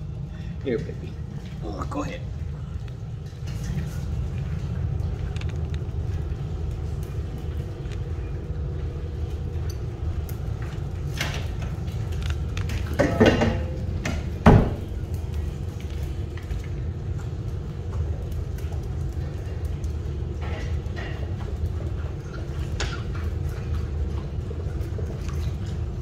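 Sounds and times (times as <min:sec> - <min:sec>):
electric fan humming: 0:00.0 - 0:26.0
puppies crunching kibble: 0:02.2 - 0:13.0, 0:14.9 - 0:26.0.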